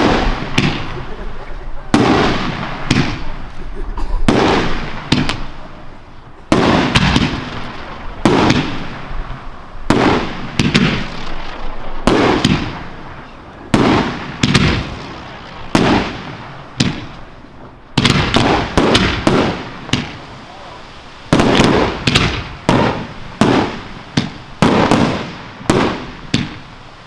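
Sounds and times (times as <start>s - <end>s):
fireworks bursting: 0.0s - 27.0s.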